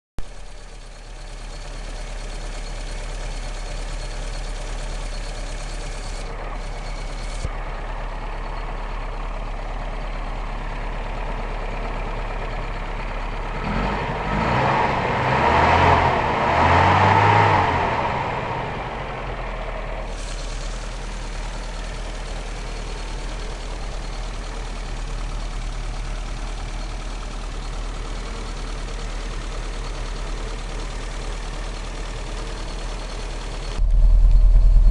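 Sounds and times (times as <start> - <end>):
car engine idling and revving: 0.2 - 34.9.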